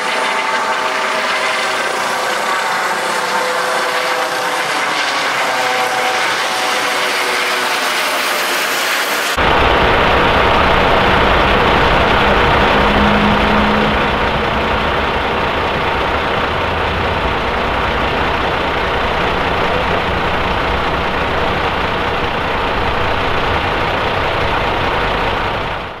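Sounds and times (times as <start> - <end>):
idling truck engines rumbling: 0.0 - 8.4, 9.3 - 26.0
helicopter turbine and rotors whining: 0.0 - 26.0.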